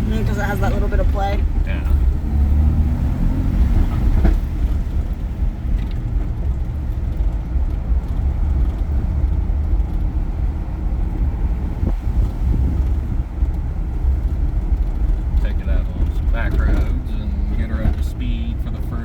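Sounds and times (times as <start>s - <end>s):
engine and tyre rumble: 0.0s - 19.0s.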